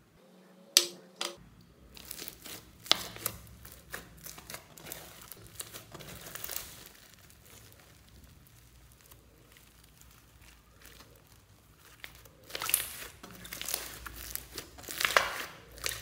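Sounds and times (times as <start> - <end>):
slime beads crackling: 1.9 - 16.0.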